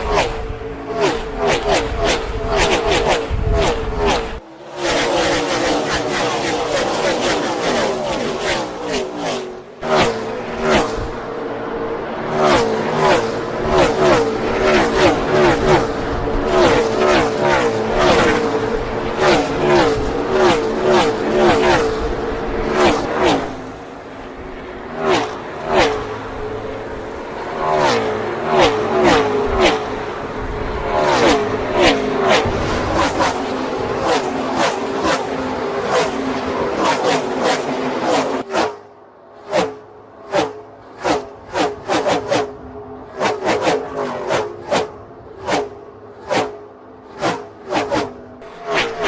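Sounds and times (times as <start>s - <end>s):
race cars passing at speed: 0.0s - 49.0s.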